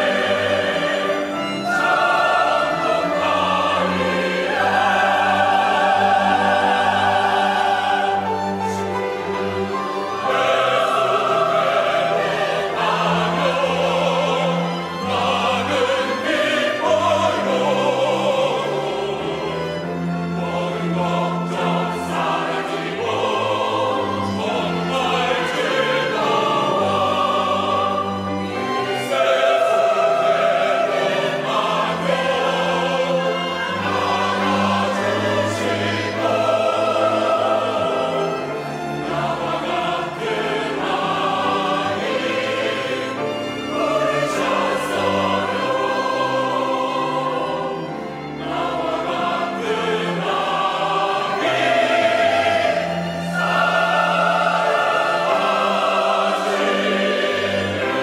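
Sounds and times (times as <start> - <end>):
mixed choir singing a hymn: 0.0 - 58.0
string ensemble: 0.0 - 58.0.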